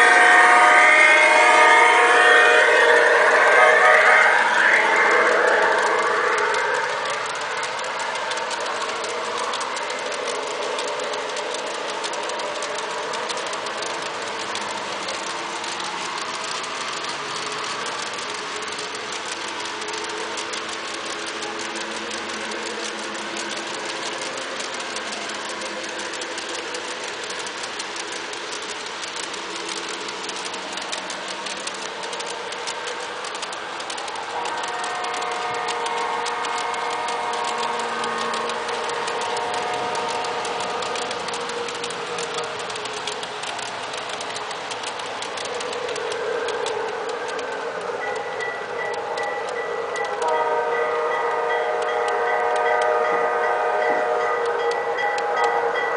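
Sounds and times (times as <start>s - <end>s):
mechanical whir: 0.0s - 55.6s
model train wheels clicking: 0.0s - 55.9s
steady tones: 0.0s - 55.9s.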